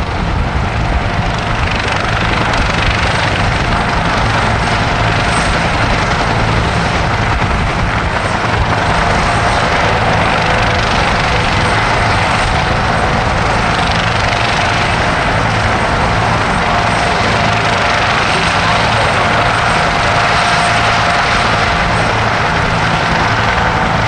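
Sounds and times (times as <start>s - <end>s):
helicopter engines and rotors: 0.0s - 24.0s.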